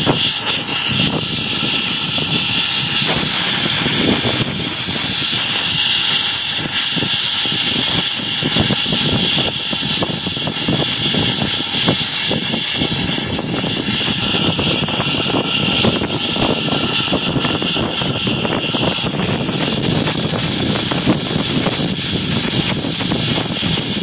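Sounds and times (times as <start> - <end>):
steam locomotive hiss: 0.0 - 24.0
thin high whine: 0.0 - 24.0.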